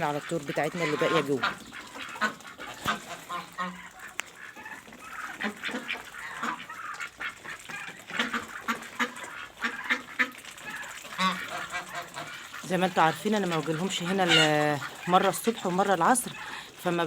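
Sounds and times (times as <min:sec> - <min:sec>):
poultry calling: 0:00.0 - 0:17.0.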